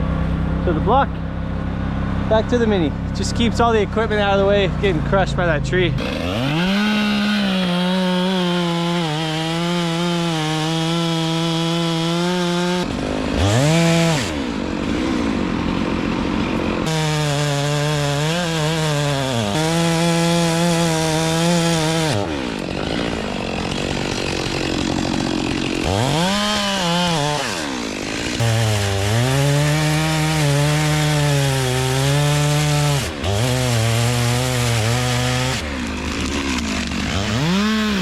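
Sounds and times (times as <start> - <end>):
chainsaw engine revving: 2.2 - 38.0.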